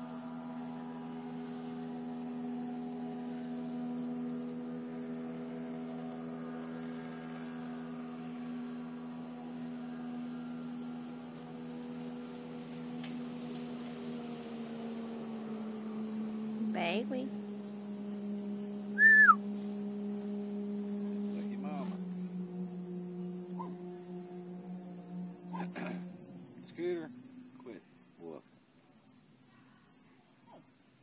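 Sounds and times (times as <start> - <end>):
low hum of held tones: 0.0 - 31.0.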